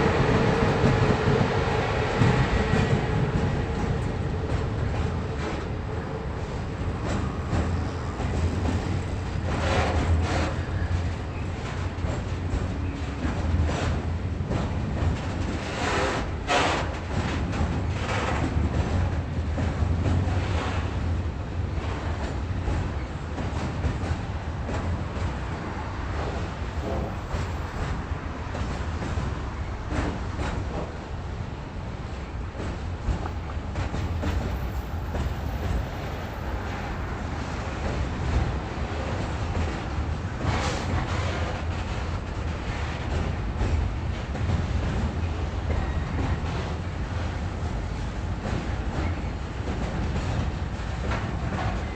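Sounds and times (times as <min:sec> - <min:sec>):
rail and machinery noise: 0:00.0 - 0:51.9
train running with low rumble: 0:00.0 - 0:51.9.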